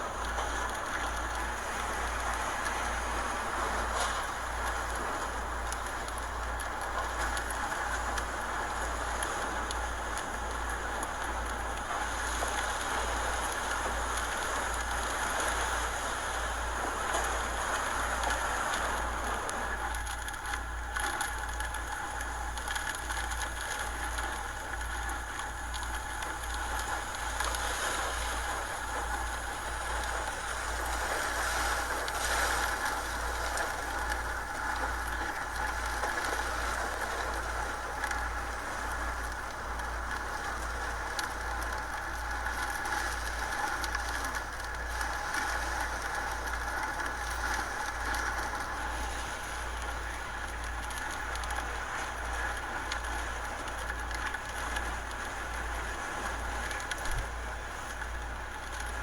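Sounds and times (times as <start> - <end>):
hurricane wind: 0.0 - 59.0.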